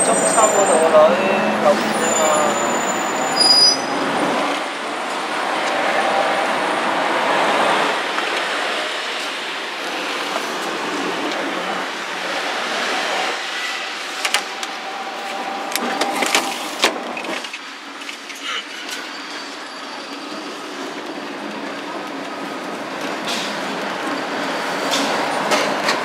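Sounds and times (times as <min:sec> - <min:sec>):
tram rattling rumble: 0:00.0 - 0:26.0.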